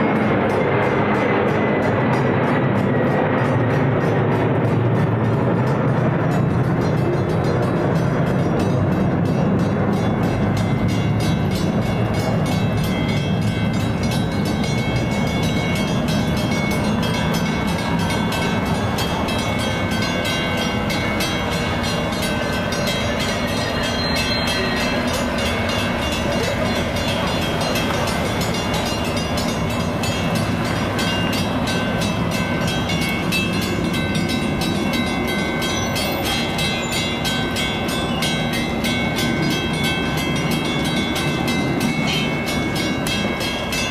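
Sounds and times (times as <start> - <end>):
train rumbling past: 0.0 - 43.9.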